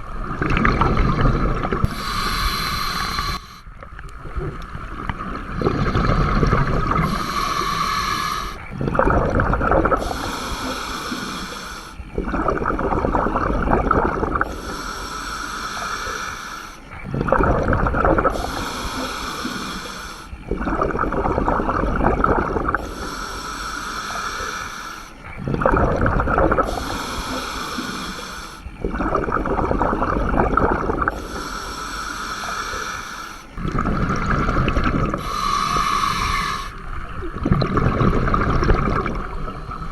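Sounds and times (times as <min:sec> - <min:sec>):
exhaled bubbles gushing: 0:00.0 - 0:24.6, 0:25.2 - 0:39.9
diver inhaling through regulator: 0:00.6 - 0:03.8, 0:05.3 - 0:37.2.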